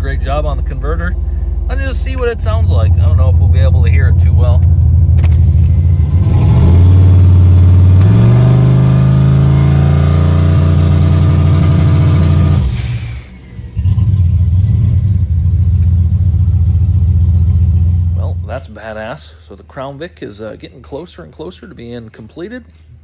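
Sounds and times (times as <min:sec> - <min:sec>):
car engine idling and revving: 0:00.0 - 0:18.7.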